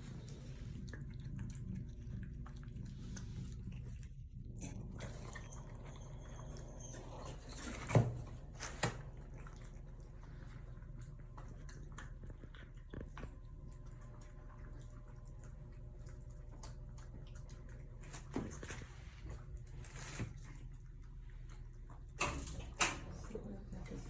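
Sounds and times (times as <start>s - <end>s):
cats chewing: 0.0s - 24.0s
low steady hum: 0.0s - 24.0s.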